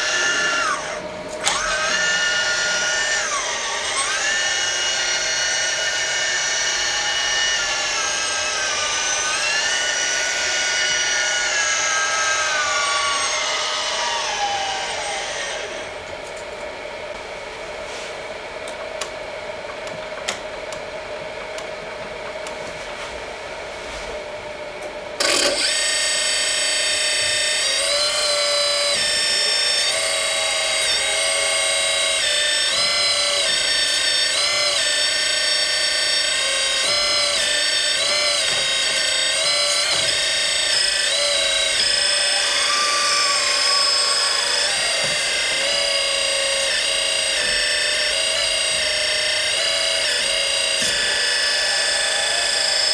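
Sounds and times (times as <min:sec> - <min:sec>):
hydraulic pump whining: 0:00.0 - 0:17.2, 0:25.2 - 0:52.9.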